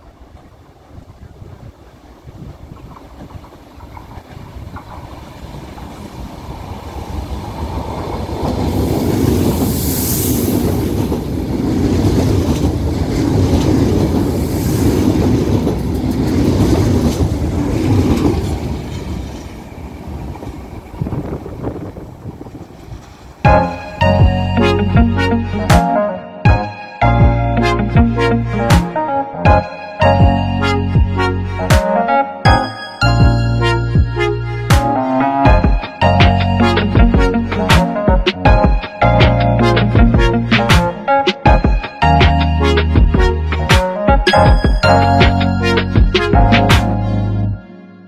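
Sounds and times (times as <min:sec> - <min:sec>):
train passing with rail noise: 0:00.0 - 0:48.0.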